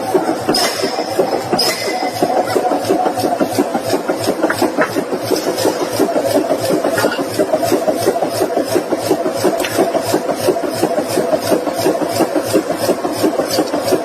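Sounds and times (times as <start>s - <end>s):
forging machinery pulsing: 0.0s - 14.0s.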